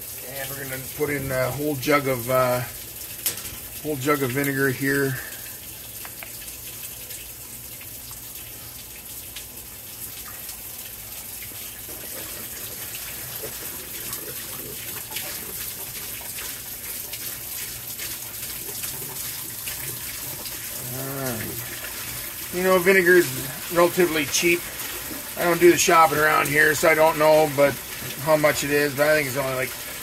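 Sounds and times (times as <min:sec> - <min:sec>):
water running into washing machine: 0:00.0 - 0:30.0
liquid splashing into water: 0:05.1 - 0:30.0.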